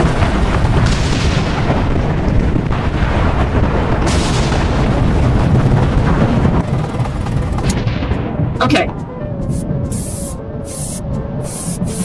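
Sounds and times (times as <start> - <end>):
loud continuous rumbling: 0.0 - 12.0.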